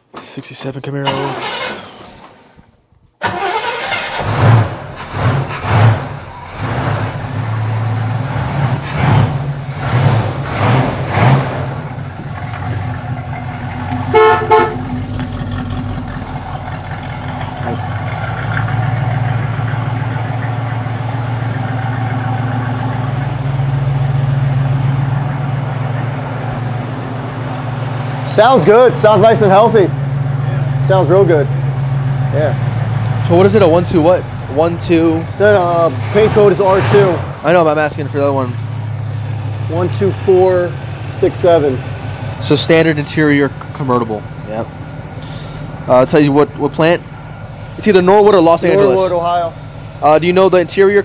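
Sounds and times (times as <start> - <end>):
car engine starting and revving: 1.0 - 2.6, 3.2 - 51.0
car engine idling: 3.2 - 51.0.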